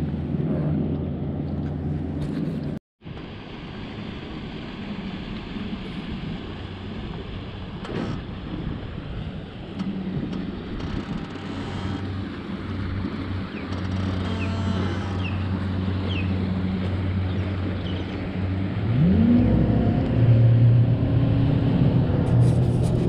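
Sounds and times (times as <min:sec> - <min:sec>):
boat engine running: 0:00.0 - 0:23.0
water noise: 0:00.0 - 0:23.0
wind: 0:00.0 - 0:23.0.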